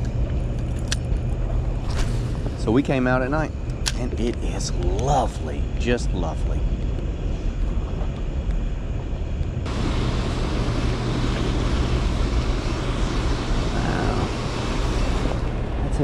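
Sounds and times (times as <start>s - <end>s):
wind buffeting microphone: 1.2s - 16.0s.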